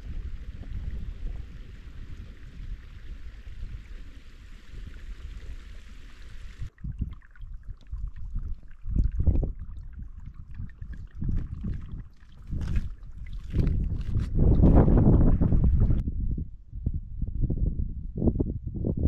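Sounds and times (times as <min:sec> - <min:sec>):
creek running over rocks: 0:00.0 - 0:16.0
wind rumbling on microphone: 0:00.0 - 0:19.0.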